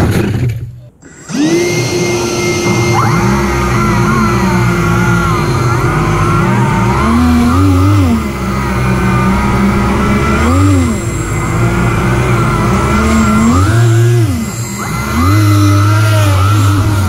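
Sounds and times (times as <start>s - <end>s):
lift fan hum: 0.8s - 17.0s
propeller whine: 0.8s - 17.0s.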